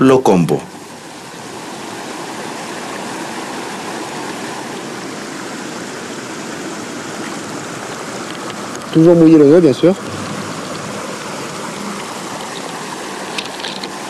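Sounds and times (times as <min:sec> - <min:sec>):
river rushing: 0:00.7 - 0:14.0.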